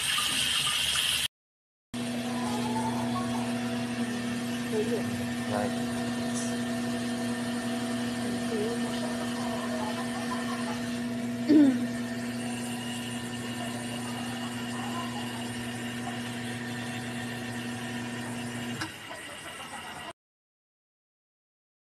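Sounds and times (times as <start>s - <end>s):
washing machine motor hum: 2.0s - 20.1s.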